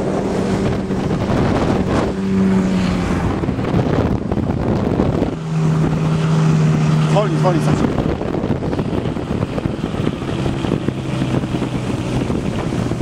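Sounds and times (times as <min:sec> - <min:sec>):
outboard motor running: 0:00.0 - 0:13.0
wind buffeting microphone: 0:00.0 - 0:13.0.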